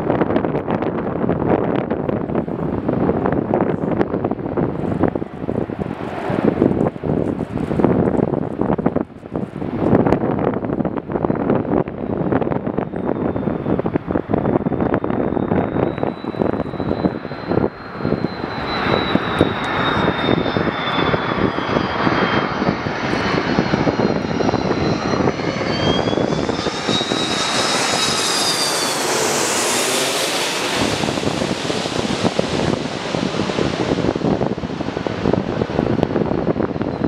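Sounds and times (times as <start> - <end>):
jet engines whining: 0.0 - 37.0
wind buffeting microphone: 0.0 - 37.0.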